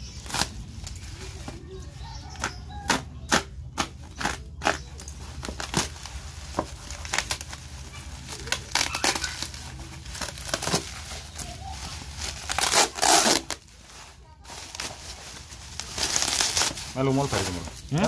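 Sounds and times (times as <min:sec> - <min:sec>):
bubble wrap crinkling: 0:00.0 - 0:18.0.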